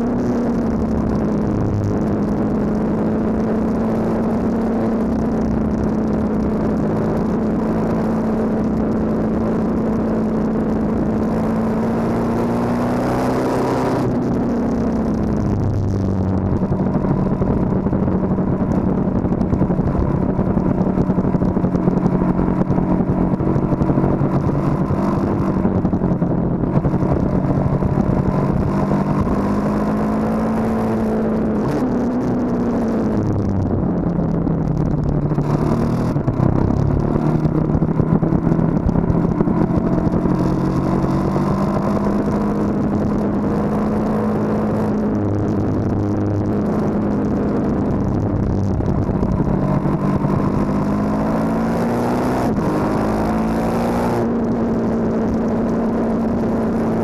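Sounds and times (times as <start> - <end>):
motorcycle engine under way: 0.0 - 57.0
wind noise: 0.0 - 57.0.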